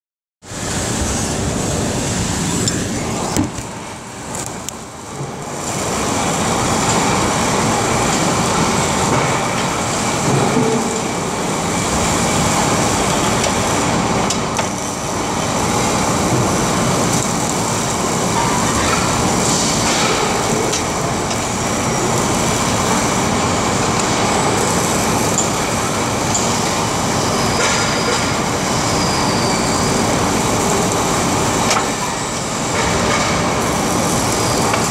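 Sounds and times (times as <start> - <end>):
factory machinery din: 0.4 - 34.9.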